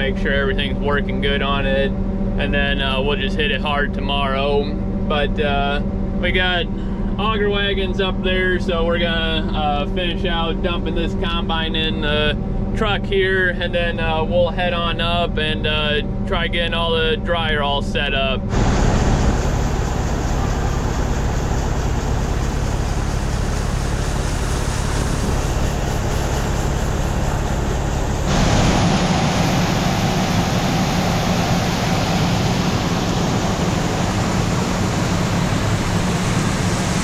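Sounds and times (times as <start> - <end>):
combine engine running: 0.0 - 37.0.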